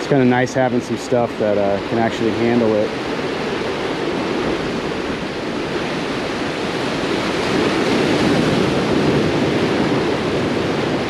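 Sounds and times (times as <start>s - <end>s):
surf breaking over boulders: 0.0s - 11.0s.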